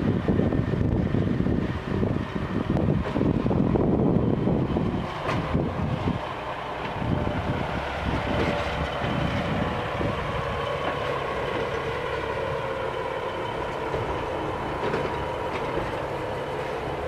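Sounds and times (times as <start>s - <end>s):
diesel engine drone: 0.0s - 17.0s
wheels clicking on rails: 0.5s - 17.0s.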